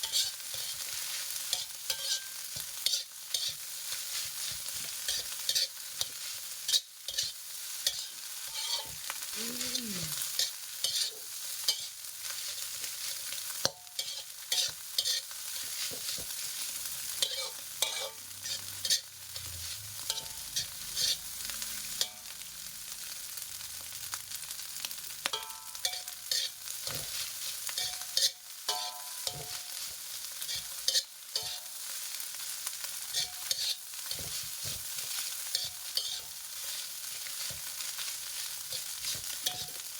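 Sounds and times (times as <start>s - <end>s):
spatula scraping a pan: 0.0s - 22.4s, 25.3s - 39.9s
rice sizzling in a pan: 0.0s - 39.9s.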